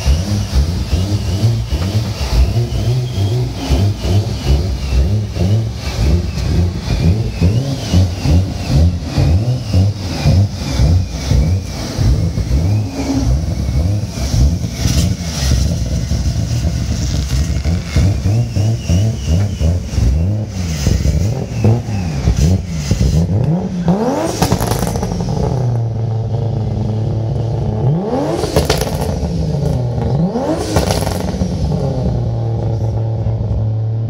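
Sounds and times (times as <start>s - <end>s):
exhaust pops and crackles: 0.0s - 27.7s, 28.3s - 33.8s
car engine revving: 0.0s - 34.0s.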